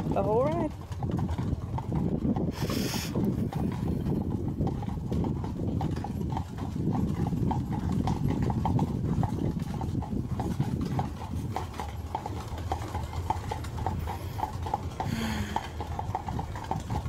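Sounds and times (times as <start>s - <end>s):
carriage wheels rumbling on cobbles: 0.0s - 17.0s
horse hooves on cobblestones: 0.0s - 17.0s.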